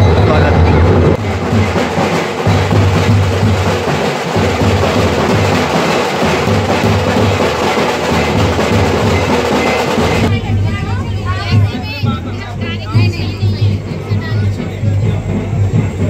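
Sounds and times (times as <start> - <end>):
drummers beating large drums: 0.0 - 16.0.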